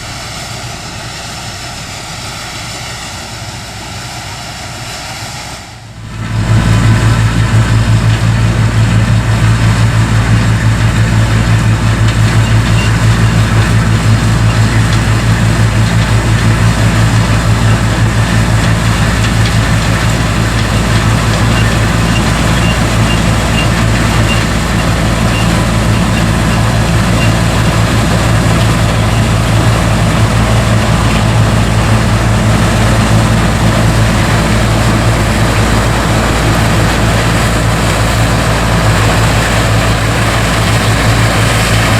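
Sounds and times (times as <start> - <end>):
combine harvester engine droning: 0.0 - 41.9.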